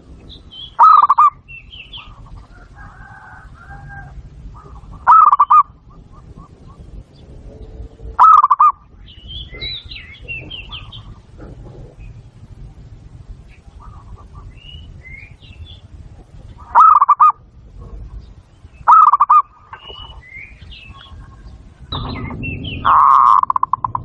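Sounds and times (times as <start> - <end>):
doves cooing: 0.0 - 24.0
small birds chirping: 0.0 - 24.0.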